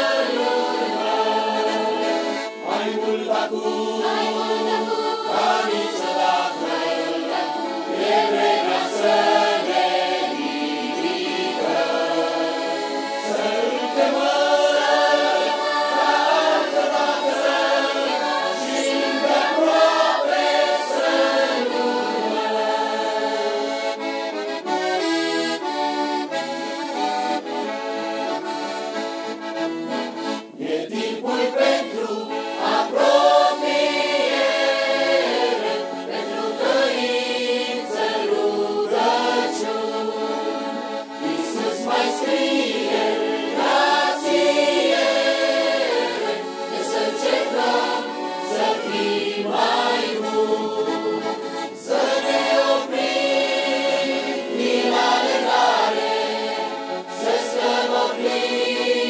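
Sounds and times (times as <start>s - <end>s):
mixed choir singing a hymn: 0.0s - 24.8s, 30.2s - 59.0s.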